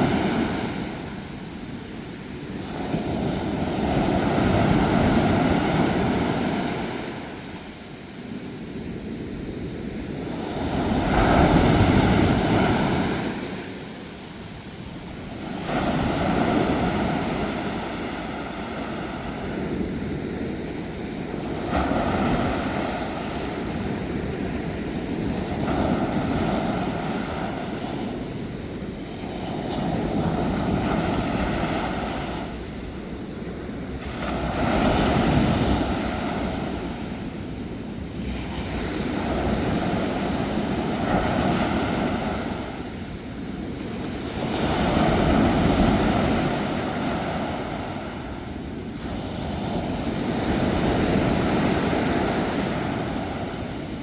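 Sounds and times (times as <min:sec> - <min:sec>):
sea surf washing onto shore: 0:00.0 - 0:54.0.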